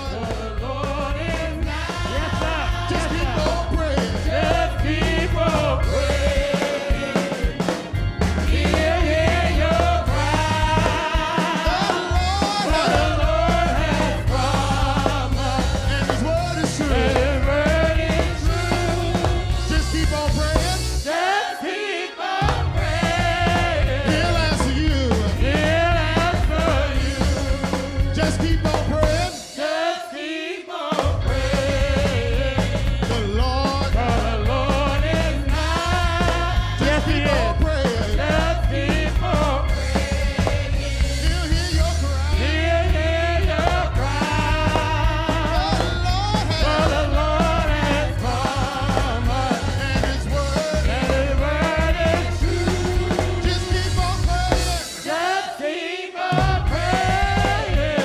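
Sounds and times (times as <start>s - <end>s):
heavy bass line: 0.0s - 21.1s, 22.4s - 29.4s, 31.0s - 55.0s, 56.4s - 58.0s
drum kit: 0.0s - 21.5s, 22.2s - 30.0s, 30.9s - 58.0s
voices singing gospel song: 0.0s - 58.0s.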